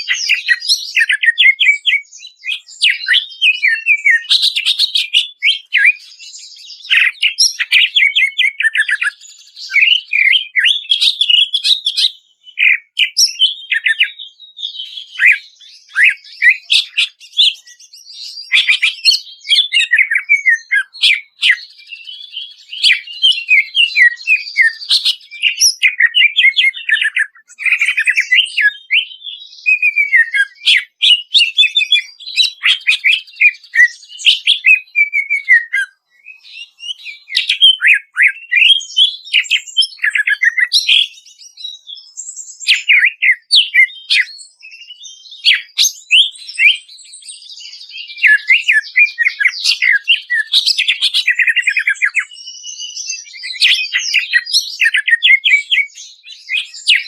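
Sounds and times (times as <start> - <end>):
bird singing trills and whistles: 0.0 - 57.0.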